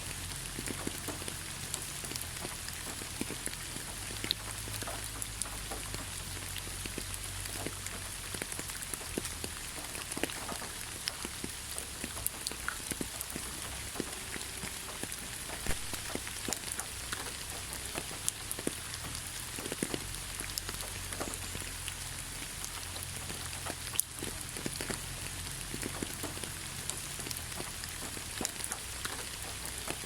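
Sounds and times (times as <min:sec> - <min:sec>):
rain falling on leaves: 0:00.0 - 0:30.0.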